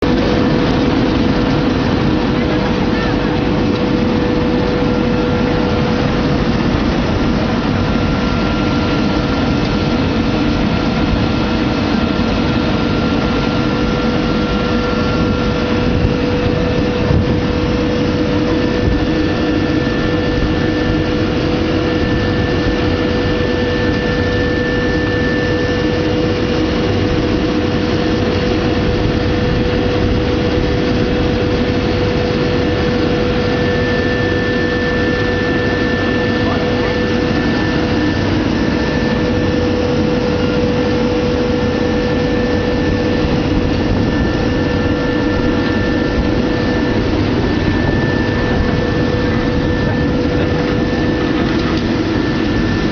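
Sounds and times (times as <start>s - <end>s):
washing machine droning: 0.0s - 52.9s.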